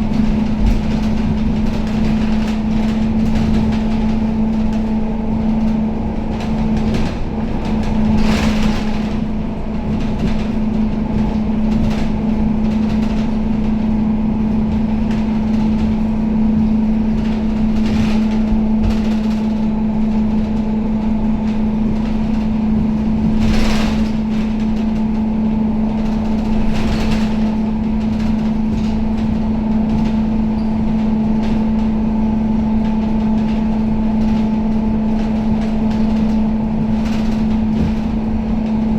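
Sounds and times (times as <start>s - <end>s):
bus engine drone: 0.0s - 38.9s
road rumble: 0.0s - 38.9s
short rattles and knocks: 0.0s - 38.9s.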